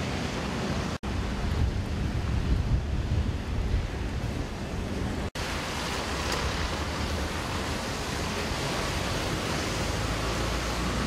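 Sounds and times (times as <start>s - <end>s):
heavy rain hiss: 0.0s - 11.0s
wind buffeting microphone: 0.8s - 11.0s.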